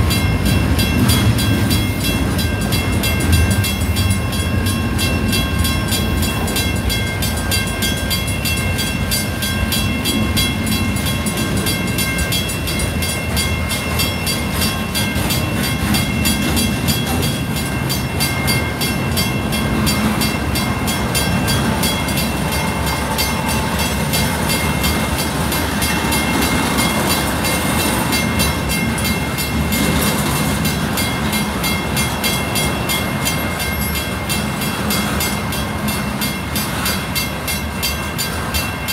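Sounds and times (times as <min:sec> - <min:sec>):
crossing bell ringing: 0:00.0 - 0:38.9
freight train wheels rumbling: 0:00.0 - 0:38.9.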